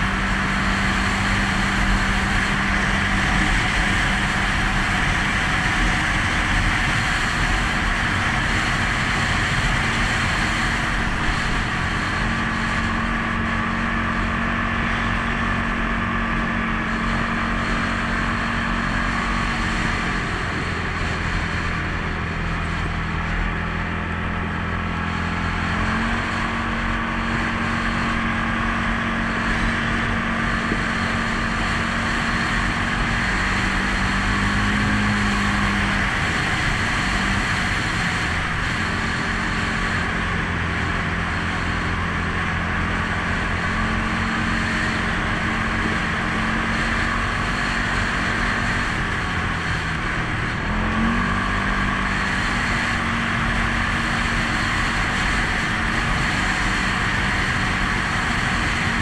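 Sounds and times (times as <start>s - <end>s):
atv engine running: 0.0s - 59.0s
constant rushing noise: 0.0s - 59.0s.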